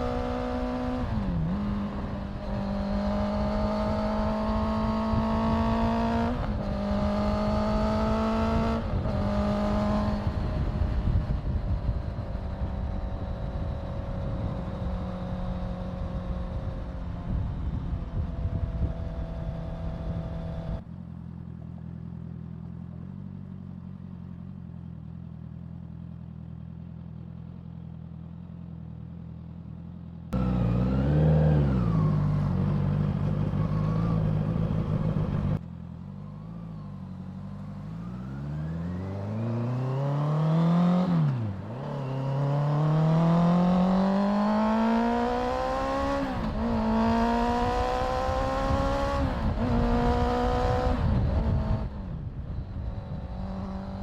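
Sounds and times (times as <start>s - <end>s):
motorcycle engine revving: 0.0s - 20.8s, 29.8s - 54.0s.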